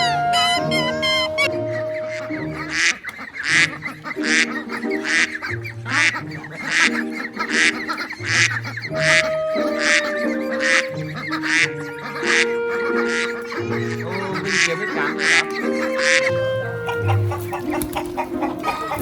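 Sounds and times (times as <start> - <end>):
waterfowl calling: 0.0 - 19.0.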